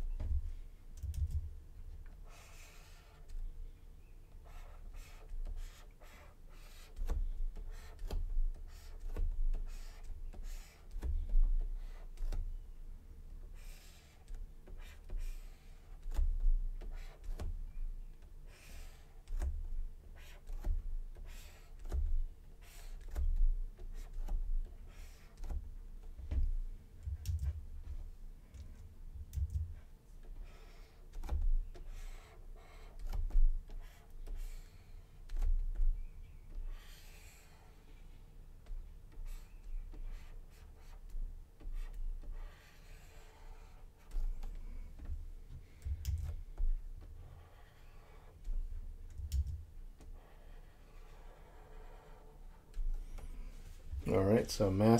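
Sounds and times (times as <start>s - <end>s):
stylus tapping and scratching: 0.0s - 3.6s, 4.2s - 12.7s, 13.4s - 54.9s.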